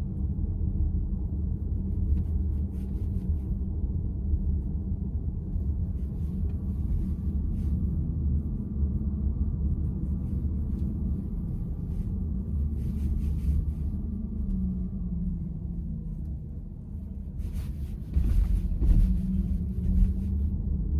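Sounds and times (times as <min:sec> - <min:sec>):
road and tyre rumble in car: 0:00.0 - 0:20.9.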